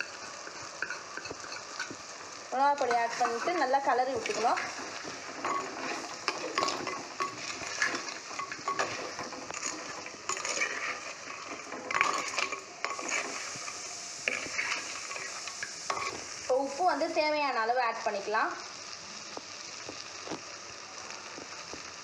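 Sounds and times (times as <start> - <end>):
frying sizzle: 0.0 - 22.0.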